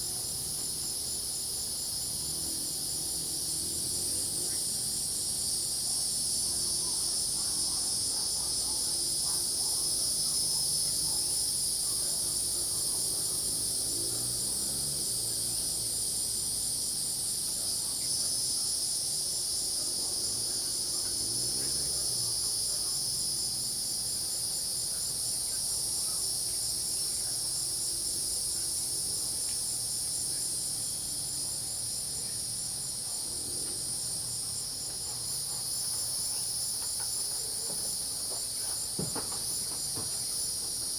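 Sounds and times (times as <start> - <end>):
crickets and cicadas trilling: 0.0 - 40.9.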